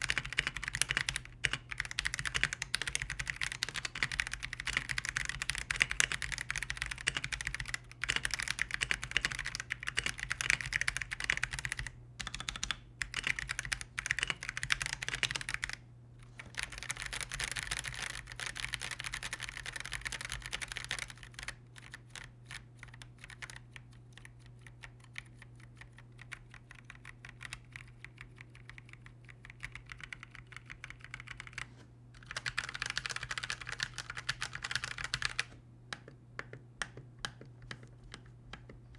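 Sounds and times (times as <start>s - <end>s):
mechanical keyboard typing: 0.0s - 15.8s, 16.4s - 31.6s, 32.2s - 38.9s.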